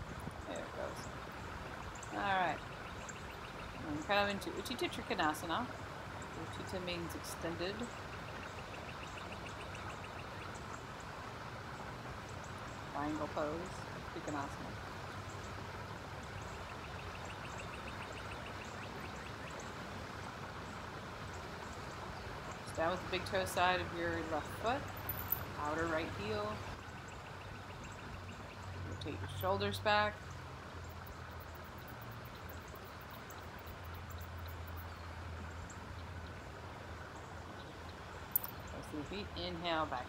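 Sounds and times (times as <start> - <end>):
river flowing: 0.0 - 40.0.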